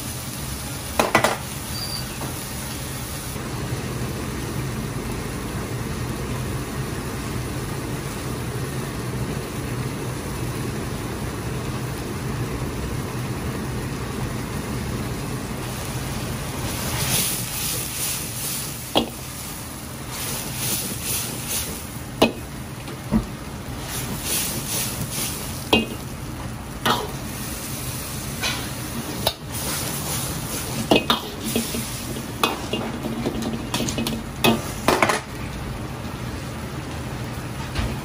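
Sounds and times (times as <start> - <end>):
sauce sizzling and bubbling: 0.0 - 37.6.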